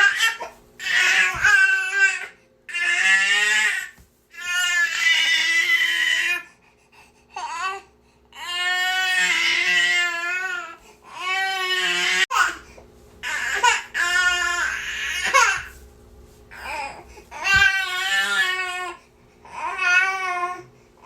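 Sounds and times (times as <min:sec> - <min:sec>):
baby crying: 0:00.0 - 0:06.5, 0:07.4 - 0:12.6, 0:13.2 - 0:15.8, 0:16.5 - 0:20.7.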